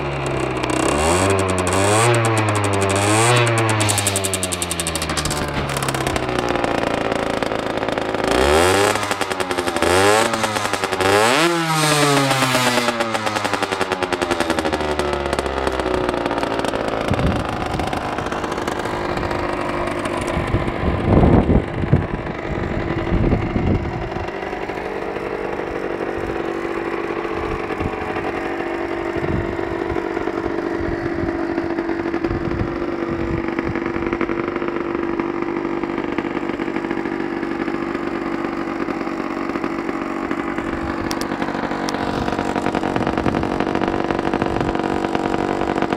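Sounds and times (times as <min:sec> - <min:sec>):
two-stroke engine revving and idling: 0:00.0 - 0:45.9.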